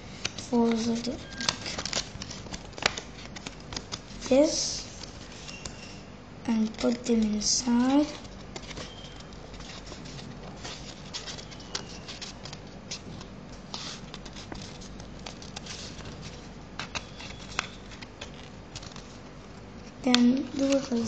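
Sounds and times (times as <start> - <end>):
paper crinkling: 0.0 - 21.0
paper clicks: 0.1 - 21.0.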